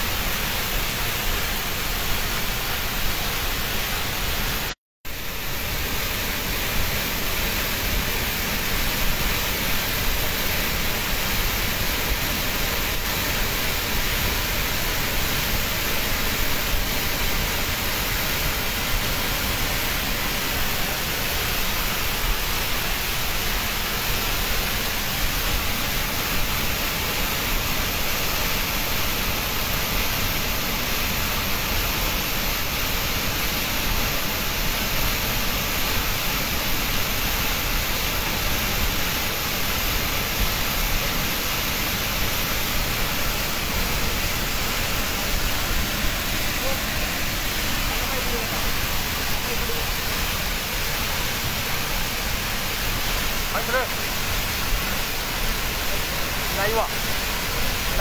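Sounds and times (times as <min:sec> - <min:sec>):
water rushing from sluice valve: 0:00.0 - 0:58.0.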